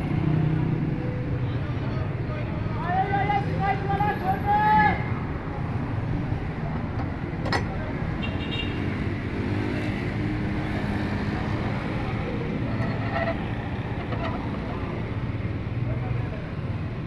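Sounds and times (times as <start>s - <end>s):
roadside traffic noise: 0.0s - 17.0s.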